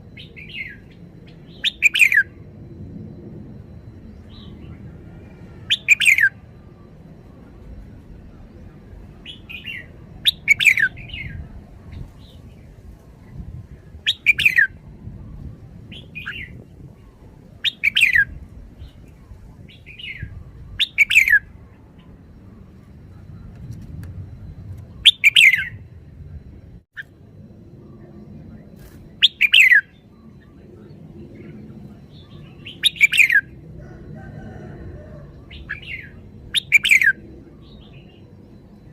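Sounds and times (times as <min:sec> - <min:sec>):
bird singing whistled notes: 0:00.0 - 0:02.5, 0:03.7 - 0:12.8, 0:14.0 - 0:23.5, 0:24.3 - 0:27.1, 0:27.8 - 0:33.6, 0:34.4 - 0:38.9.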